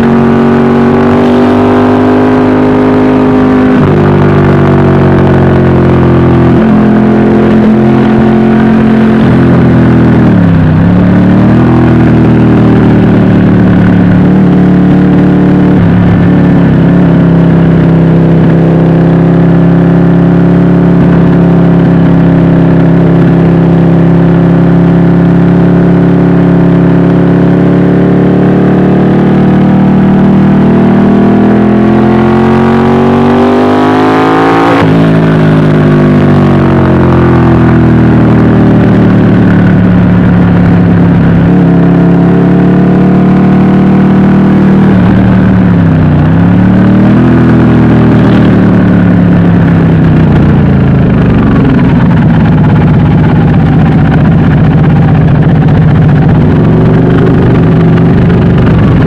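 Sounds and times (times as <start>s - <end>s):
motorcycle engine at speed: 0.0s - 59.0s.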